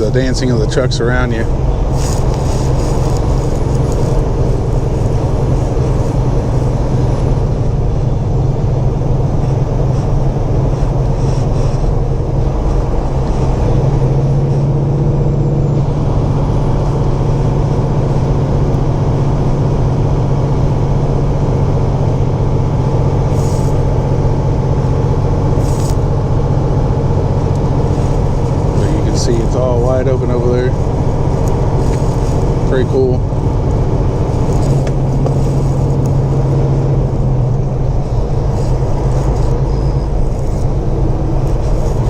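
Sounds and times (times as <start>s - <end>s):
diesel engine drone: 0.0s - 42.0s
road noise: 0.0s - 42.0s.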